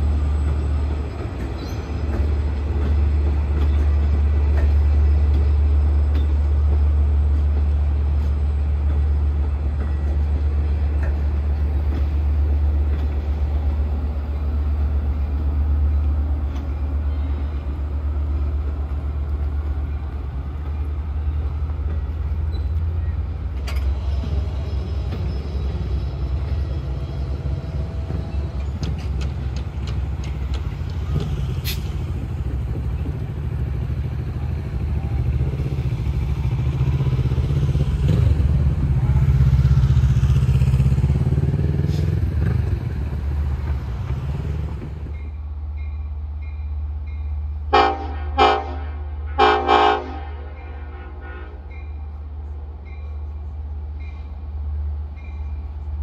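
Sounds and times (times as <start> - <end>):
diesel train rumble: 0.0 - 56.0
train wheels on rails: 0.0 - 56.0.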